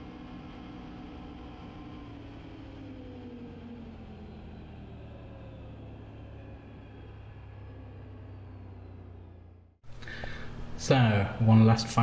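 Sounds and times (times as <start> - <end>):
atv engine running: 0.0 - 11.1.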